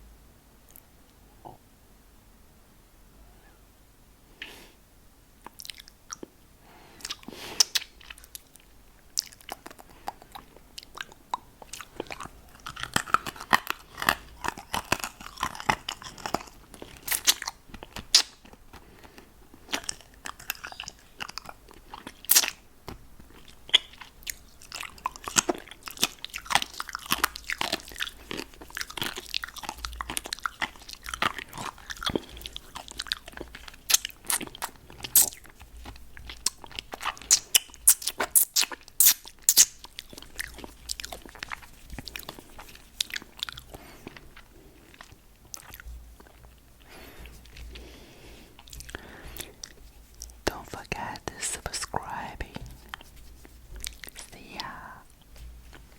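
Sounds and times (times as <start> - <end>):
sucking and smacking on lollipop: 7.0 - 55.9.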